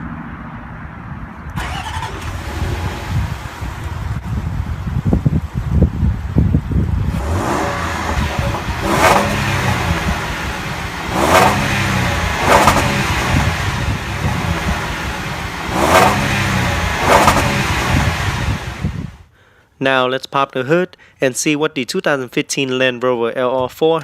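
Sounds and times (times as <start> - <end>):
car engine idling and revving: 0.0 - 19.3.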